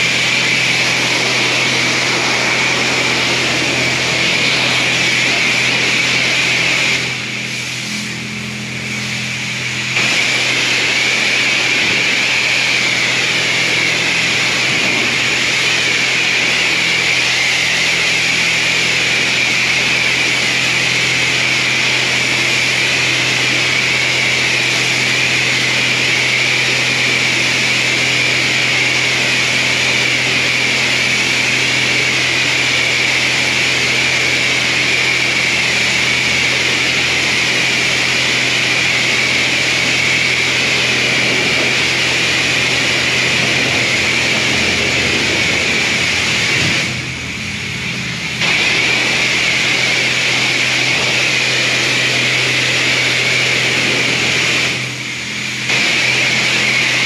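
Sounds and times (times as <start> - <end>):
loud machine noise: 0.0 - 57.0.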